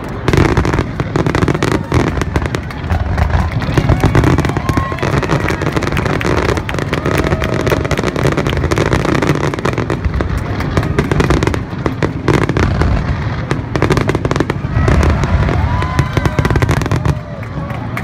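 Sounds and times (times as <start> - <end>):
fireworks crackling and popping: 0.0 - 18.0.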